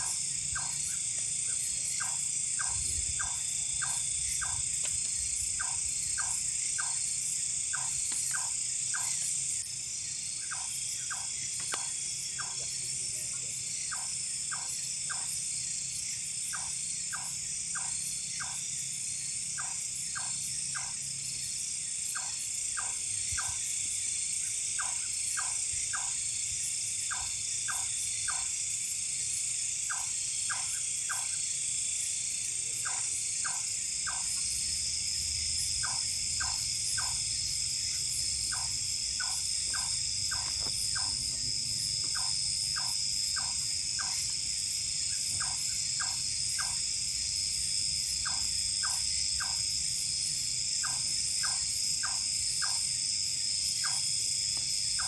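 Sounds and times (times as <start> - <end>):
shrill insect drone: 0.0 - 55.0.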